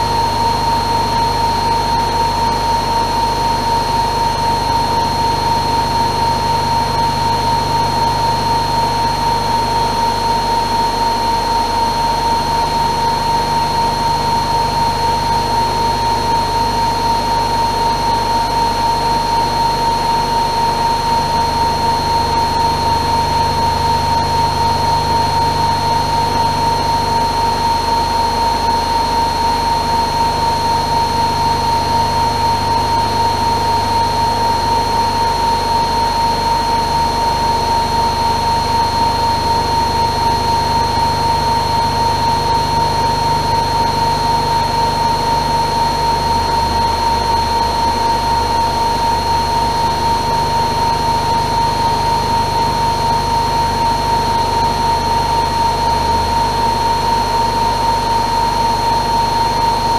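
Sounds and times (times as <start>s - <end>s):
washing machine motor whine: 0.0s - 59.9s.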